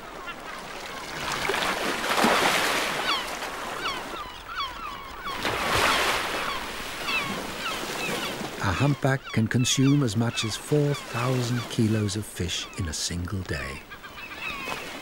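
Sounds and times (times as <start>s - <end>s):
gulls calling: 0.0s - 15.0s
seawater rushing and splashing: 0.0s - 15.0s.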